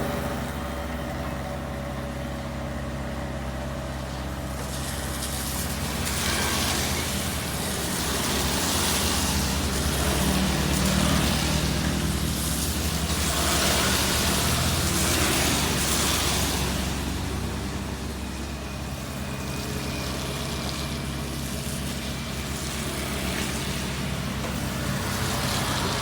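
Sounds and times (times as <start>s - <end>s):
heavy diesel engine running: 0.0s - 26.0s
rushing noise of sand loading: 2.1s - 26.0s.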